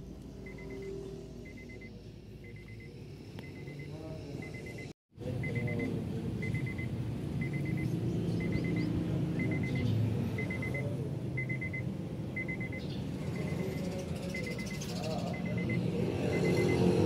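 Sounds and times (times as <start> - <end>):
car warning chime beeping: 0.4 - 17.0.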